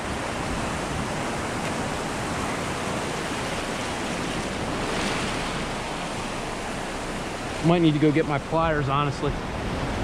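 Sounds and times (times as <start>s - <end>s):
surf washing over sand: 0.0s - 10.0s.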